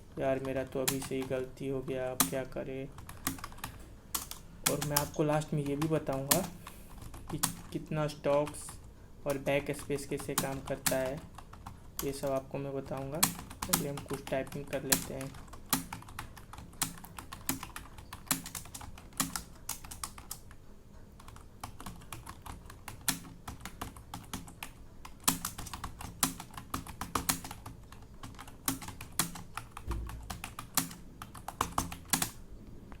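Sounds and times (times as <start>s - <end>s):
fast typing on keyboard: 0.2s - 32.4s.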